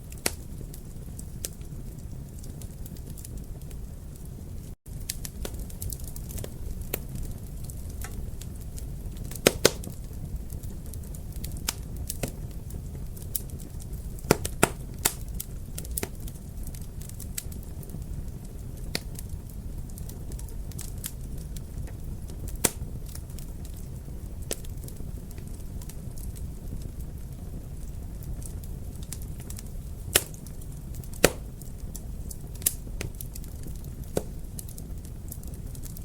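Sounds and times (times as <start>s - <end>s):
low rumble of burning: 0.0s - 36.0s
sharp pops of fire: 0.0s - 36.0s
wood fire crackling: 0.0s - 36.0s.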